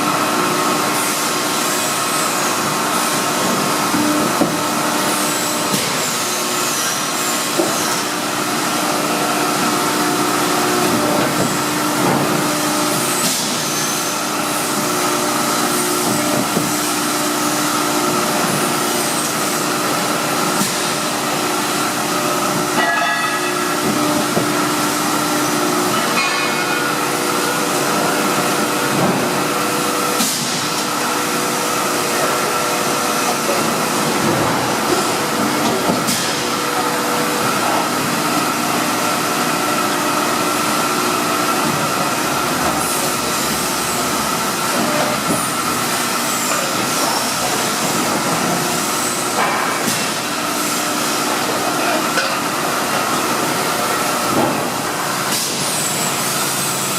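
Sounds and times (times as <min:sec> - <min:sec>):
hydraulic pump hiss and hum: 0:00.0 - 0:56.9.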